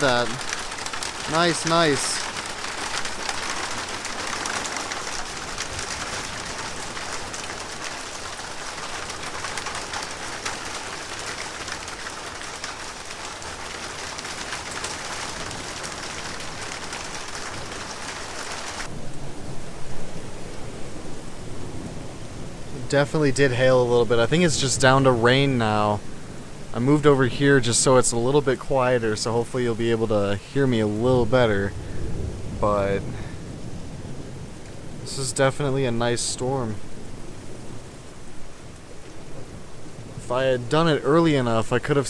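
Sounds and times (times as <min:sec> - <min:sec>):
heavy rain and hail on metal roof: 0:00.0 - 0:42.0.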